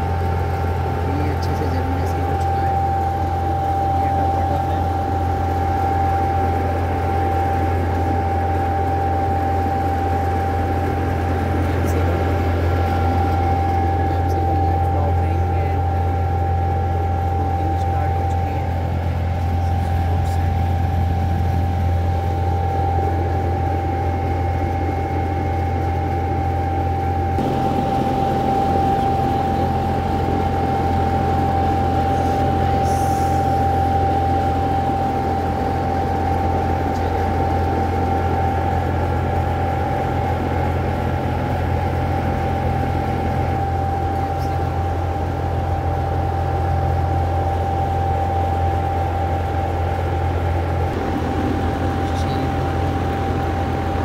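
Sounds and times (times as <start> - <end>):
machine hum with high whine: 0.0 - 54.0.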